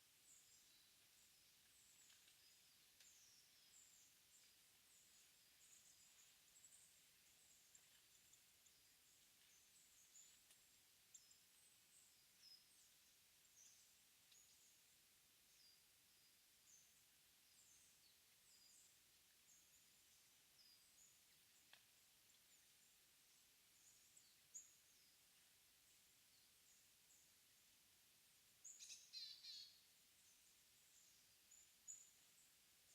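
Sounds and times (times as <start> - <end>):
songbirds calling: 0.2 - 27.4, 28.6 - 32.9.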